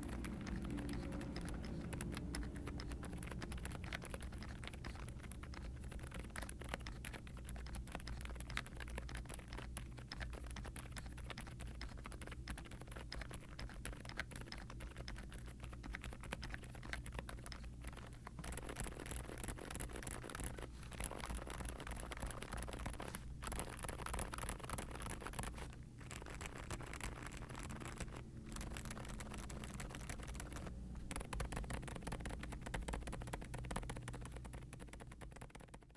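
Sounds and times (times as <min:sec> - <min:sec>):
muffled keyboard typing: 0:00.0 - 0:35.9.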